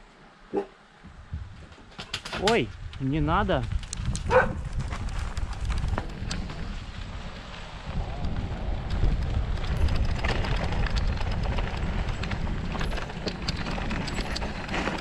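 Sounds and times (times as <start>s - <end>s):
wind rumble on microphone: 1.0s - 15.0s
bicycle clicks and rattles: 1.7s - 15.0s.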